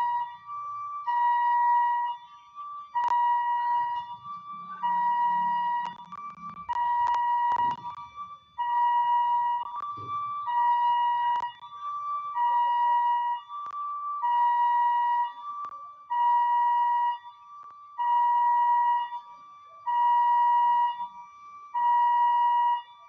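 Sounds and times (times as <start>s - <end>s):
two-tone electronic alarm: 0.0s - 23.0s.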